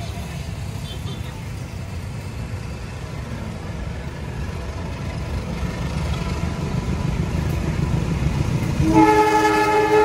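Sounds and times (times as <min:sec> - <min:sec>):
diesel locomotive approaching: 0:00.0 - 0:10.0
passing road traffic: 0:00.0 - 0:10.0.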